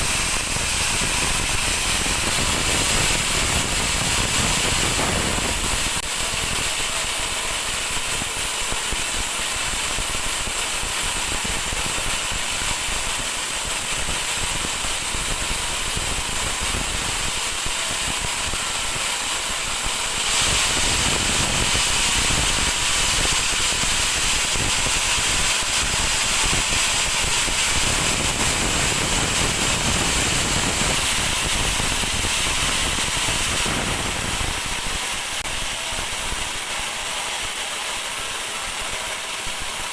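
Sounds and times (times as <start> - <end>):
band saw blade whine in wood: 0.0 - 39.9.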